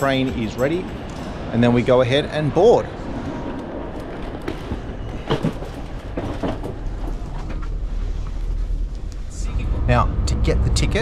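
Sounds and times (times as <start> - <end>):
train carriage rumble and hum: 0.0 - 11.0.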